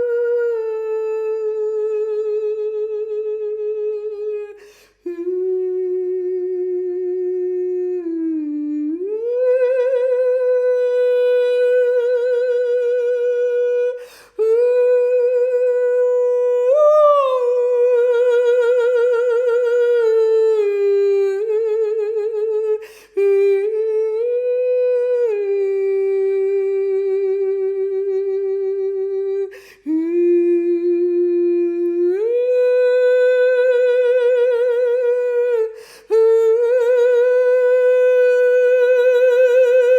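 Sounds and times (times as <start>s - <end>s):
person humming wordless tones: 0.0s - 39.9s.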